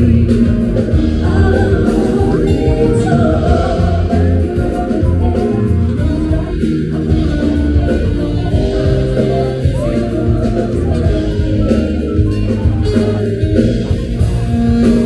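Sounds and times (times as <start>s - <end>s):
music with singing: 0.0s - 15.0s
strong bass line: 0.0s - 15.0s.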